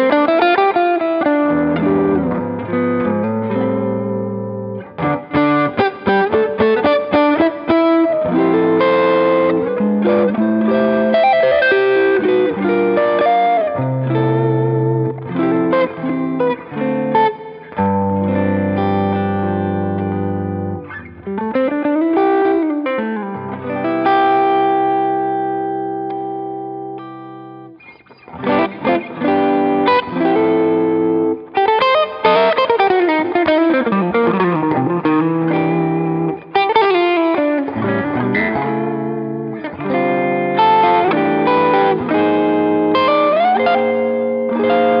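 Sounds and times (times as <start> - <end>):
electric guitar lead line: 0.0 - 45.0.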